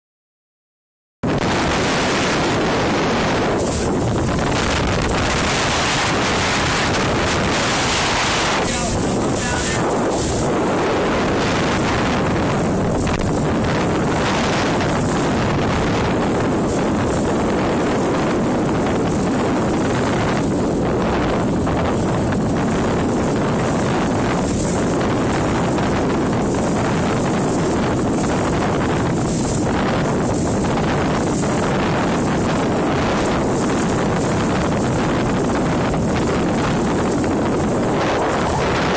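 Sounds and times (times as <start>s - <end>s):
water rushing against hull: 1.2s - 38.9s
wind buffeting microphone: 1.2s - 38.9s.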